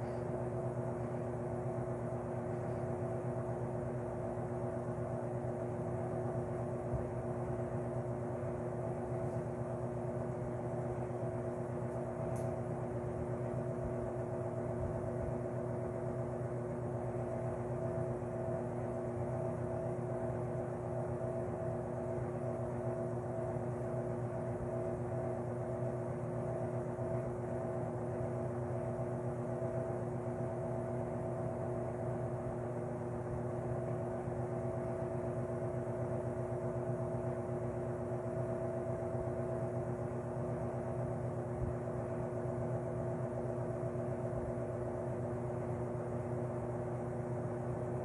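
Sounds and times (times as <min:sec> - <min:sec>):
fan motor hum: 0:00.0 - 0:48.0.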